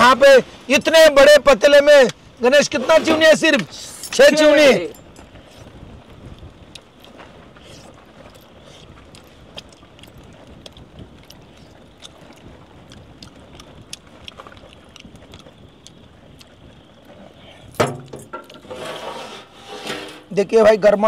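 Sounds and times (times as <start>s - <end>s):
wind noise: 0.0s - 21.0s.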